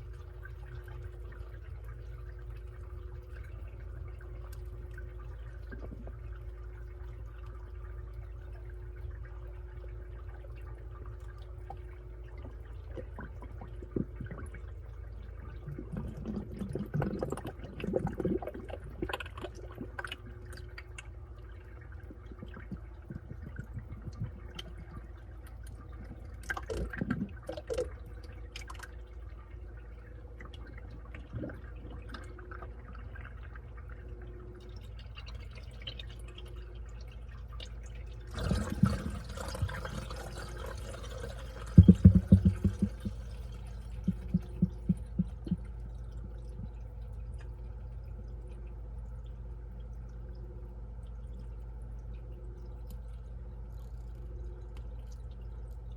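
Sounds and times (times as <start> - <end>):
water sloshing in washing machine: 0.0 - 49.3
washing machine hum: 0.0 - 55.9.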